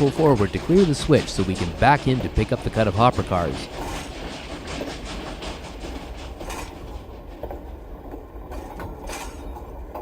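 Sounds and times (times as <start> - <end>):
model train rumbling: 0.0 - 10.0
wheels clicking over rail joints: 0.0 - 10.0.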